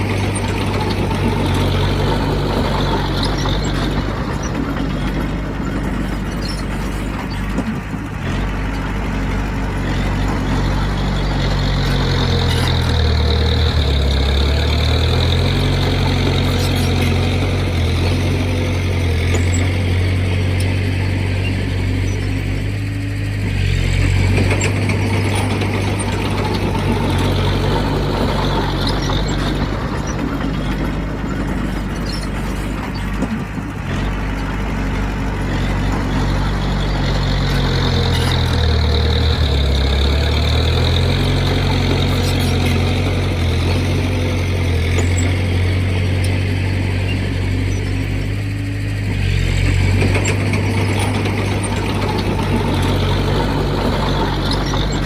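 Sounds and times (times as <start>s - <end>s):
diesel engine humming: 0.0s - 55.0s
mechanical noise: 0.0s - 55.0s.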